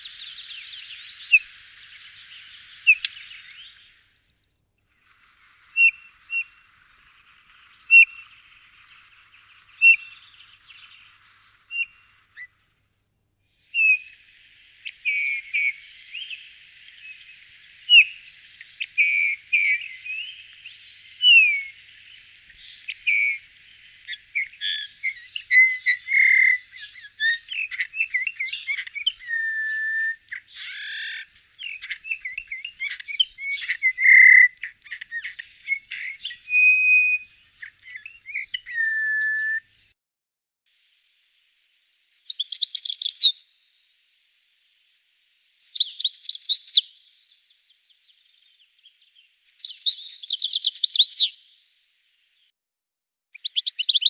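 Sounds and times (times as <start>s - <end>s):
bullfinch calls and song: 0.0s - 39.9s, 40.8s - 44.9s, 45.6s - 52.5s, 53.4s - 54.0s.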